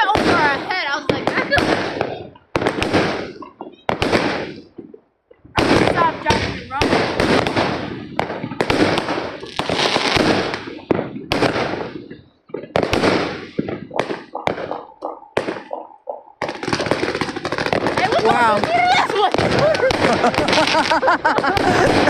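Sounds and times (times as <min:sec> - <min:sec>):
firecrackers crackling: 0:00.0 - 0:22.0
fireworks sharp bangs: 0:00.0 - 0:22.0.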